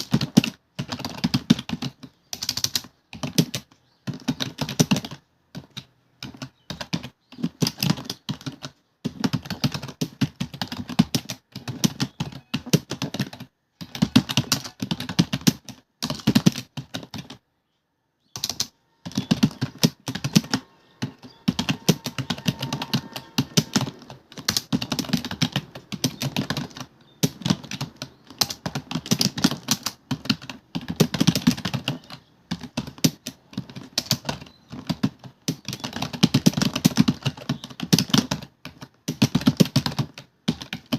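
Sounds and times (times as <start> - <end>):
fast typing on keyboard: 0.0 - 17.4, 18.4 - 40.9.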